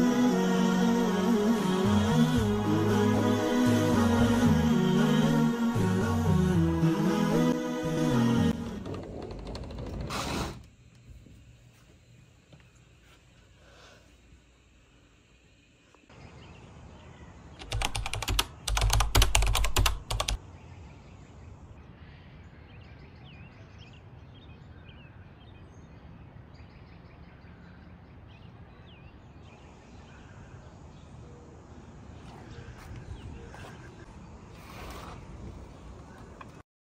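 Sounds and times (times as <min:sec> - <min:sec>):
steady outdoor hiss: 0:00.0 - 0:08.4, 0:09.2 - 0:36.6.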